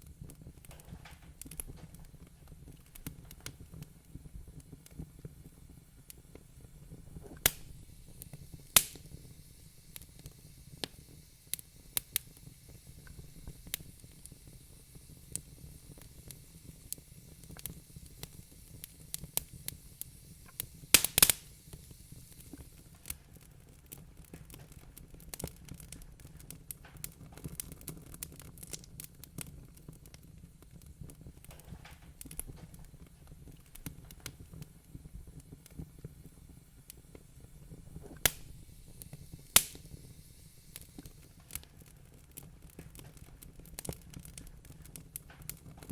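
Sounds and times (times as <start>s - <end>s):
wood fire crackling in fireplace: 0.0s - 45.9s.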